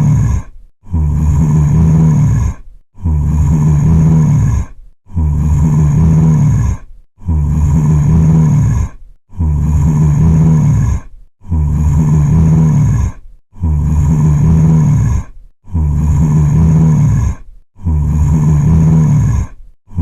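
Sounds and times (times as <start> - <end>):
zombie groan: 0.0 - 20.0.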